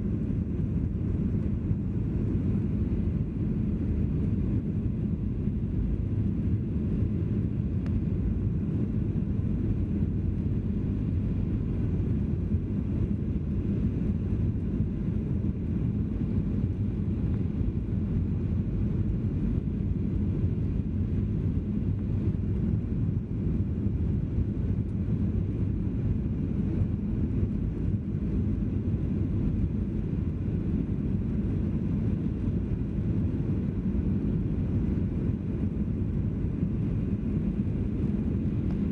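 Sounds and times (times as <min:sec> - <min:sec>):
faint hum: 0:00.0 - 0:38.9
jet engines rumbling in cabin: 0:00.0 - 0:38.9.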